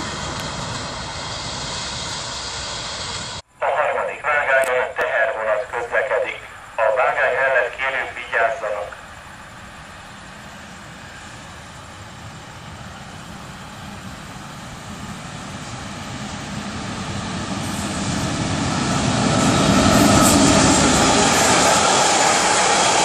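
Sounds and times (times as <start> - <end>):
train rumble approaching: 0.0 - 23.0.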